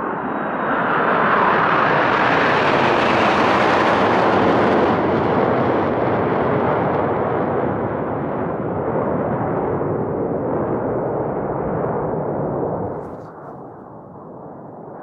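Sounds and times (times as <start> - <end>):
jet aircraft roaring overhead: 0.0 - 15.0.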